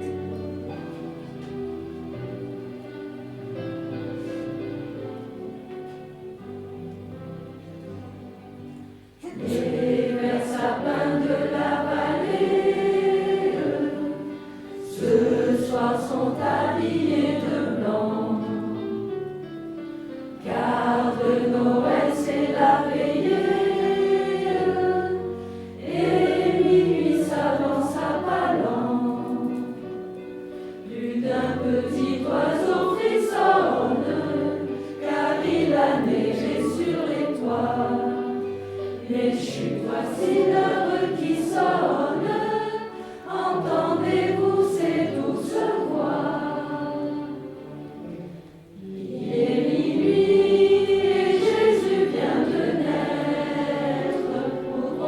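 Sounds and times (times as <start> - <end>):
choir singing: 0.0 - 55.0
held accompanying notes: 0.0 - 55.0.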